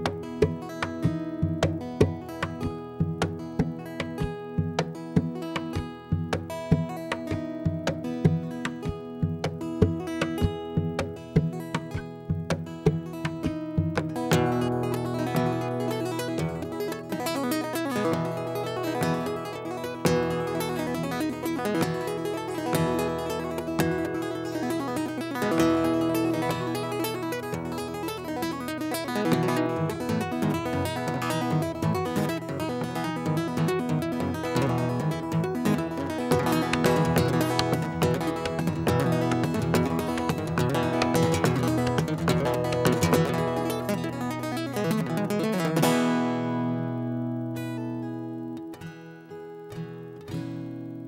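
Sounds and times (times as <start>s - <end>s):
acoustic guitar chords: 0.0s - 51.0s.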